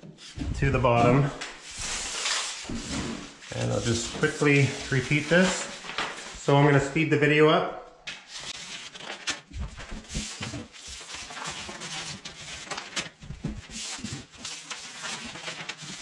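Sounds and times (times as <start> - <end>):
paper tape rustling: 1.0 - 6.4, 8.1 - 16.0.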